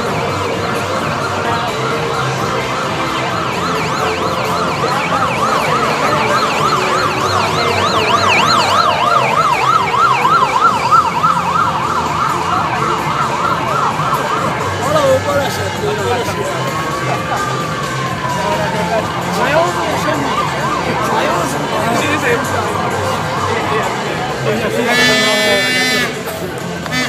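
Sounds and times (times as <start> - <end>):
siren yelp passing by: 0.0 - 24.0.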